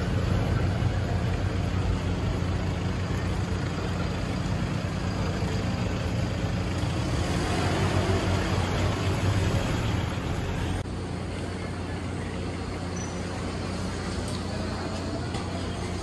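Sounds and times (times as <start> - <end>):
street traffic: 0.0 - 16.0
vehicle engine idling: 0.0 - 16.0.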